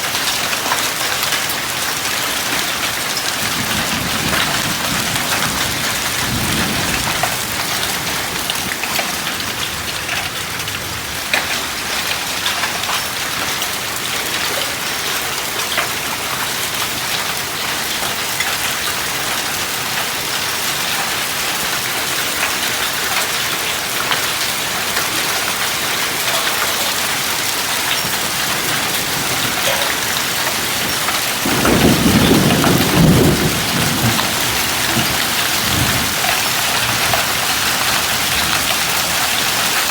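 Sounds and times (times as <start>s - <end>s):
hailstones ticking on surfaces: 0.0s - 39.9s
rain hissing: 0.2s - 15.0s, 19.0s - 39.9s.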